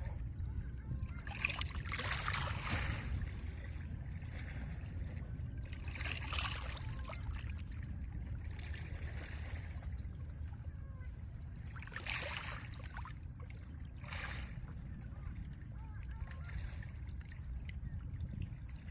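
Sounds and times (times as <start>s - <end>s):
wind rumble: 0.0s - 11.9s, 12.5s - 18.9s.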